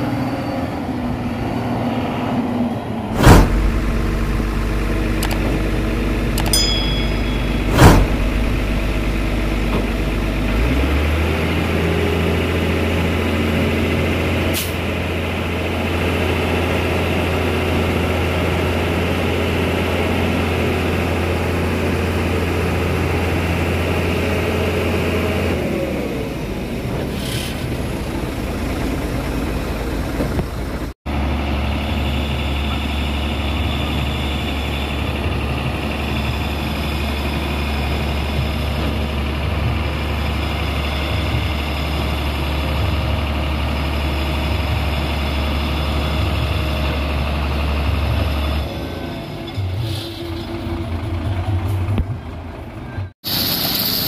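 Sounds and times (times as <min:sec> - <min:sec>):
heavy diesel truck engines: 0:00.0 - 0:54.0.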